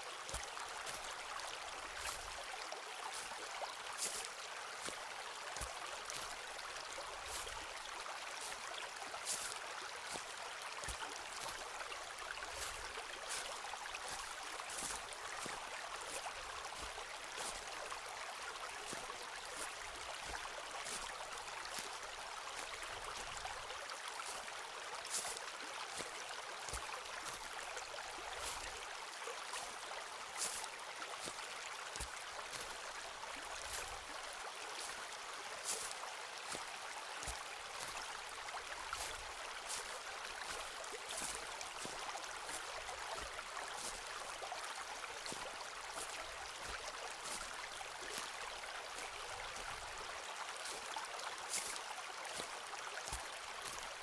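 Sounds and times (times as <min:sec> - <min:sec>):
footsteps on forest path: 0:00.0 - 0:54.0
stream flowing: 0:00.0 - 0:54.0.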